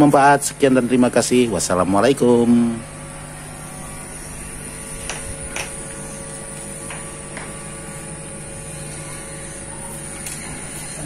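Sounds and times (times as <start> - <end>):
electrical hum: 0.0 - 11.0
faint high whine: 0.0 - 11.0.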